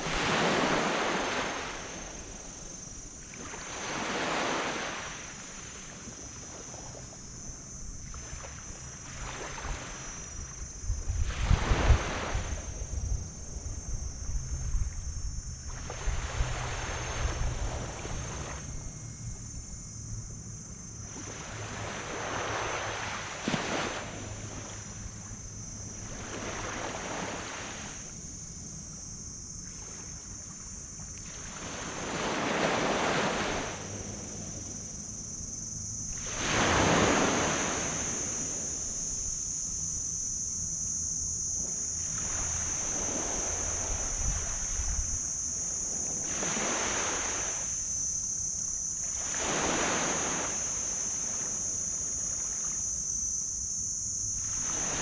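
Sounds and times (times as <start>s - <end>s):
waves breaking on a beach: 0.0s - 14.2s, 15.7s - 18.7s, 21.1s - 25.3s, 25.9s - 28.6s, 31.2s - 35.3s, 36.1s - 39.6s, 41.5s - 53.6s, 54.3s - 55.0s
low steady hum: 4.9s - 55.0s.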